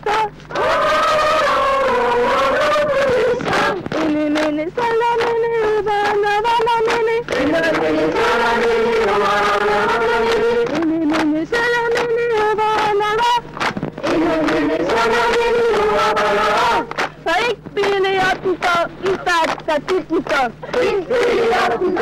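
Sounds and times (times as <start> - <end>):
girls singing a chant: 0.0 - 13.4, 14.0 - 22.0
hand clapping: 2.6 - 22.0.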